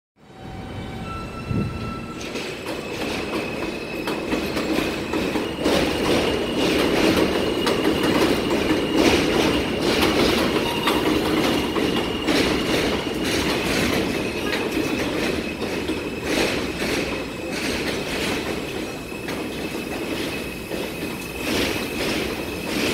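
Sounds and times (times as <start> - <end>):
subway train rumbling: 0.2 - 22.9
wheels clacking over rail joints: 2.2 - 22.9.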